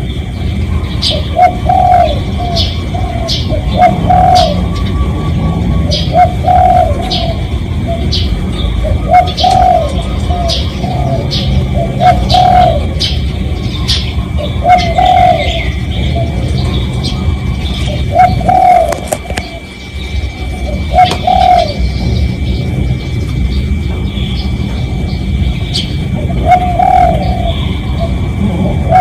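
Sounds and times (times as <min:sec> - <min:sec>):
dove cooing: 0:00.0 - 0:29.0
low steady rumble: 0:00.0 - 0:29.0
small birds chirping: 0:00.0 - 0:29.0.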